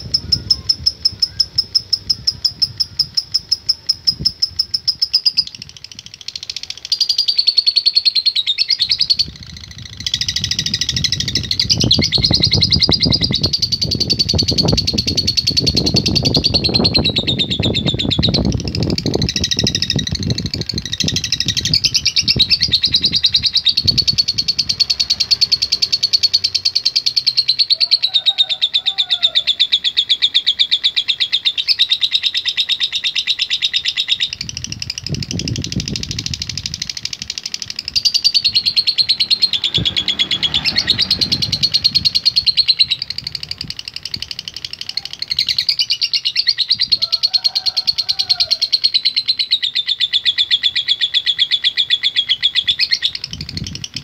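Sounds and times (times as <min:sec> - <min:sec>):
bird chattering trill: 0:00.0 - 0:54.0.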